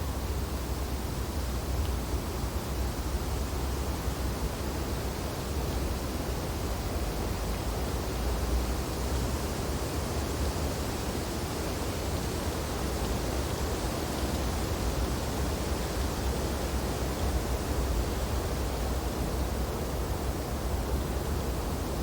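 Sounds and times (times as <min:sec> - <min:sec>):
wind through tree branches: 0:00.0 - 0:22.0.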